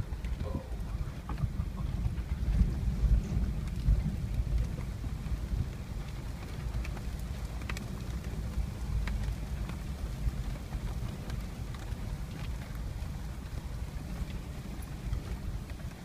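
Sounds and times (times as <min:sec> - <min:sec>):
raindrops ticking on vehicle: 0:00.0 - 0:16.0
vehicle driving on dirt road: 0:00.0 - 0:16.0.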